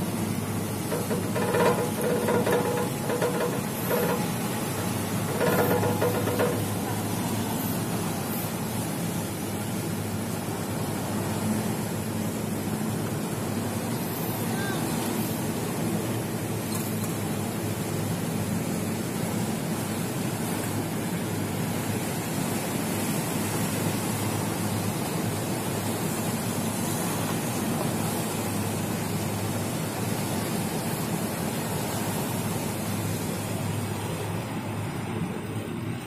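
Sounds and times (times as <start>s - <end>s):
choppy sea: 0.0s - 36.0s.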